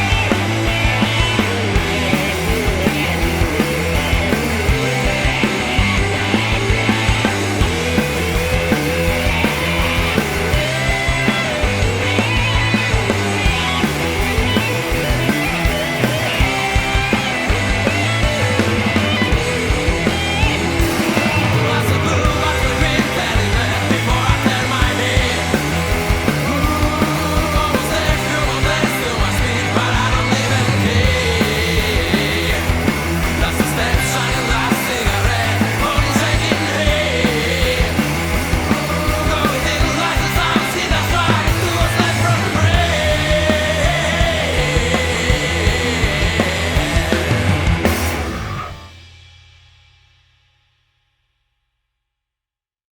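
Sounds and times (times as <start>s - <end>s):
electric guitar: 0.0s - 49.1s
bass guitar: 0.0s - 49.2s
drums steady beat: 0.0s - 50.3s.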